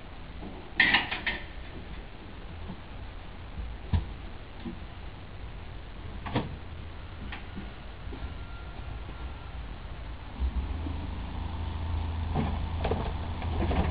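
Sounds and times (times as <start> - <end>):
low background noise: 0.0 - 13.9.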